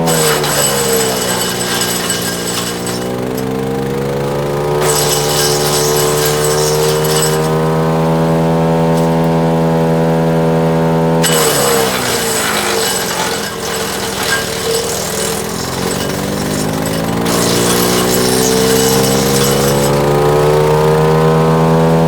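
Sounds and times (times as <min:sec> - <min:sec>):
wood chipper engine bogging: 0:00.0 - 0:21.2
wood grinding in chipper: 0:00.0 - 0:21.6.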